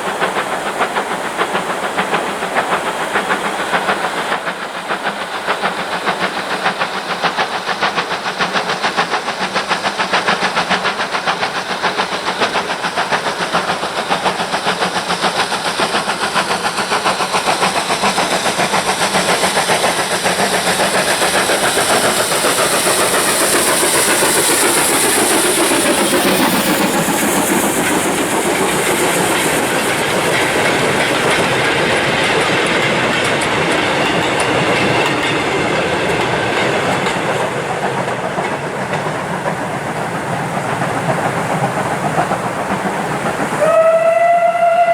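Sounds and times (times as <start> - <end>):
steam hissing: 0.0 - 44.9
steam locomotive exhaust beats: 0.0 - 44.9.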